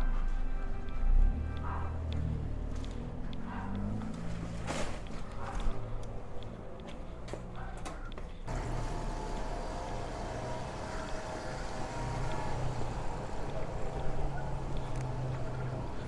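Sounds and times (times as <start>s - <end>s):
street ambience: 0.0s - 16.0s
car engine humming: 0.1s - 16.0s.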